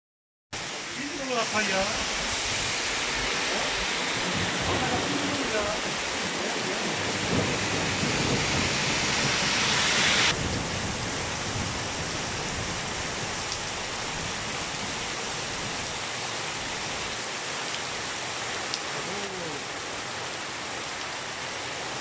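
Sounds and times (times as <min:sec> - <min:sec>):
heavy rain on street: 0:00.6 - 0:22.0.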